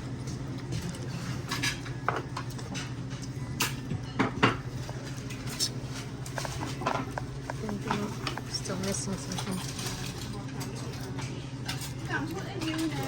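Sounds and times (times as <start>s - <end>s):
steady low hum: 0.0s - 11.9s
utensils clinking on dishes: 0.3s - 13.0s.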